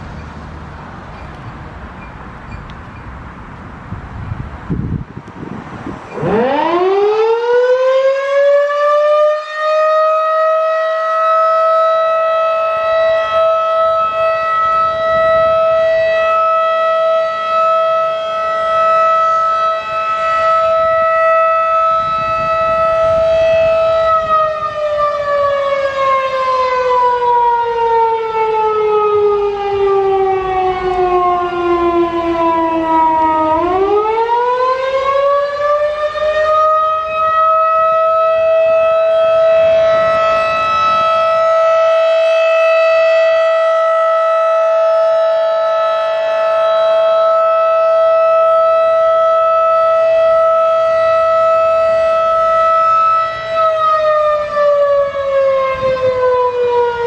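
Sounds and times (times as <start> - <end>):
rotating warning siren: 0.0 - 57.0.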